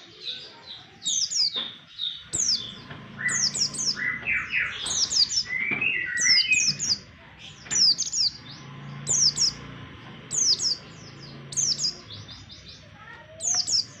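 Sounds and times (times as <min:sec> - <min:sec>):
bird chirping song: 0:00.0 - 0:14.0
lower bird chirps: 0:00.0 - 0:14.0.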